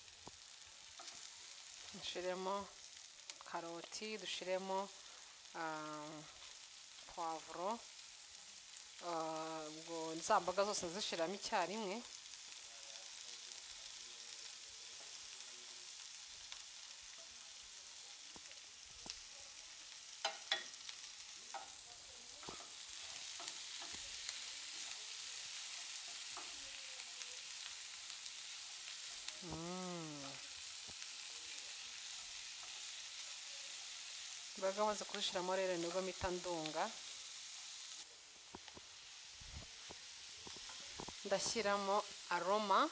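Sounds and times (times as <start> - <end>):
vegetables sizzling in oil: 0.0 - 42.9.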